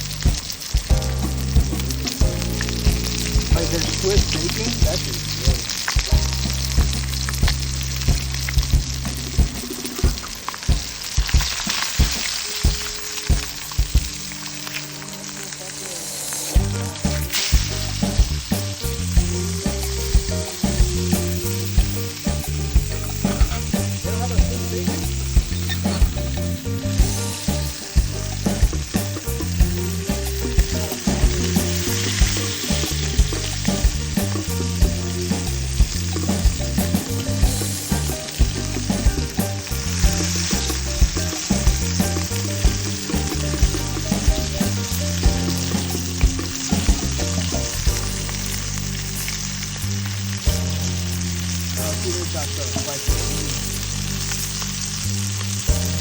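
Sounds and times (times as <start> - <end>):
music with beat and bass: 0.0 - 14.9, 16.5 - 56.0
crackling hiss: 0.0 - 56.0.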